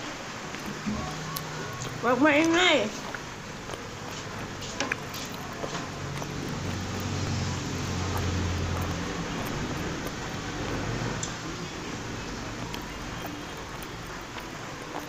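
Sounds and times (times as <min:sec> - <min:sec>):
passing vehicle engine hum: 0:00.3 - 0:15.0.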